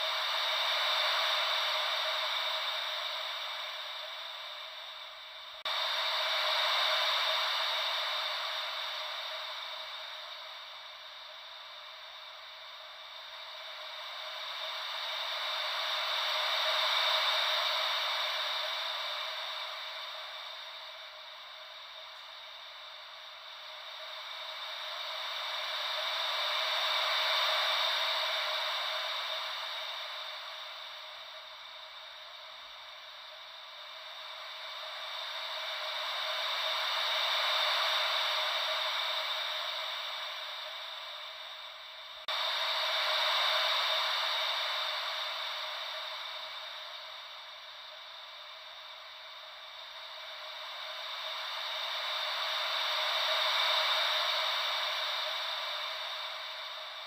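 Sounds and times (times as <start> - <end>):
ocean wave white noise: 0.0 - 57.0.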